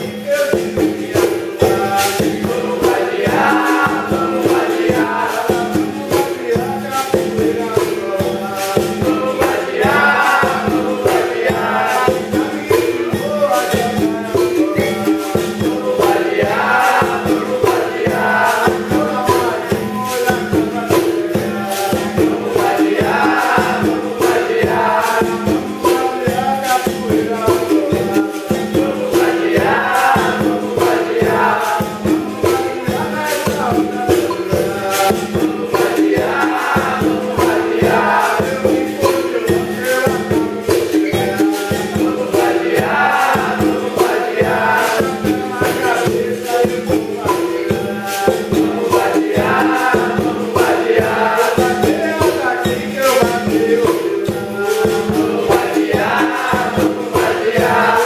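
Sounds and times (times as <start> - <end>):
group singing together: 0.0 - 58.0
rattling shaker percussion: 0.0 - 58.0.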